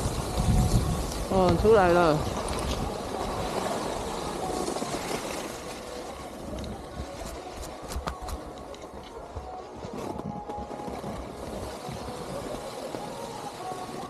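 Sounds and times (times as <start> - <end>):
skis sliding over snow: 0.0 - 14.0
wind rumbling on microphone: 0.0 - 14.0.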